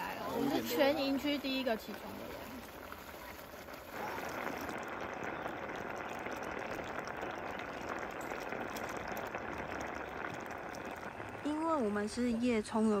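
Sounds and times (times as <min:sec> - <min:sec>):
pot of rice bubbling: 0:00.0 - 0:13.0.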